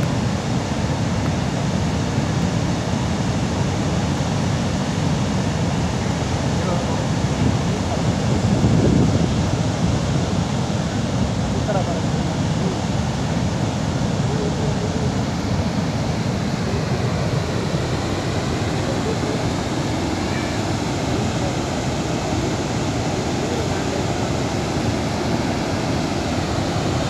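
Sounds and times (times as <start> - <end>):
water churning in river: 0.0 - 27.0
water pouring from dam spillway: 0.0 - 27.0.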